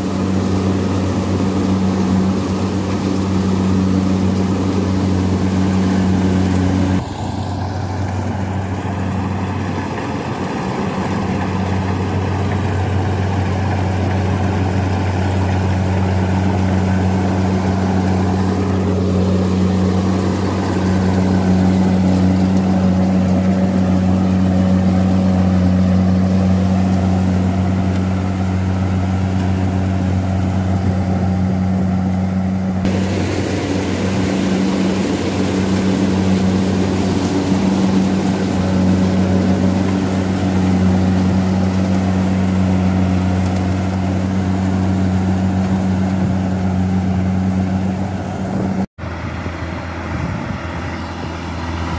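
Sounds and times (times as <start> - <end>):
combine harvester engine drone: 0.0 - 51.9.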